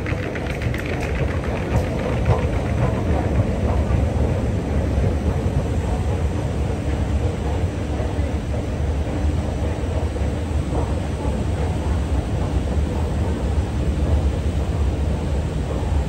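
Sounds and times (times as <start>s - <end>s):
escalator rumbling: 0.0s - 16.0s.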